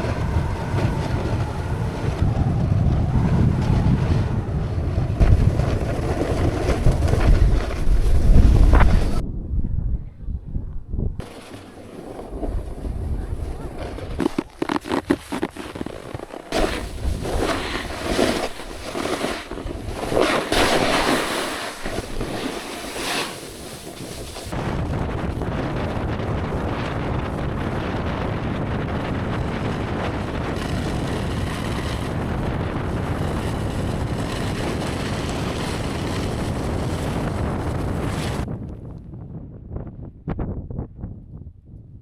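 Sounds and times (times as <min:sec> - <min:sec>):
snowboard scraping over snow: 0:00.0 - 0:09.2, 0:11.2 - 0:38.5
wind rumbling on microphone: 0:00.0 - 0:42.0.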